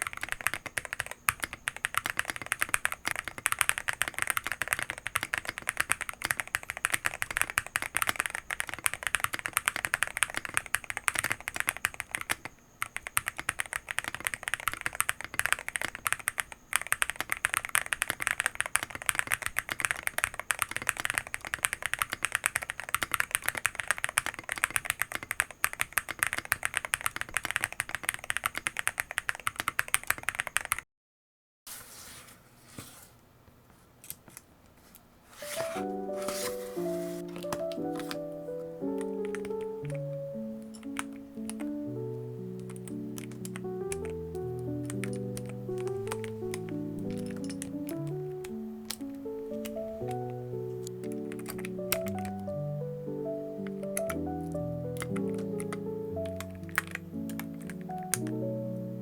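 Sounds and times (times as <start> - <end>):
fast typing on mechanical keyboard: 0.0 - 30.8, 35.5 - 59.0.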